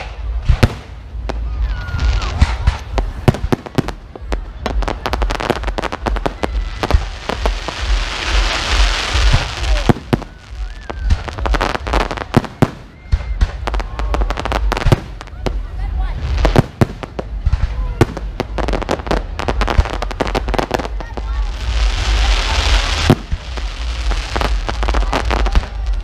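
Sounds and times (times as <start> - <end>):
firework crackling hiss: 0.0 - 26.0.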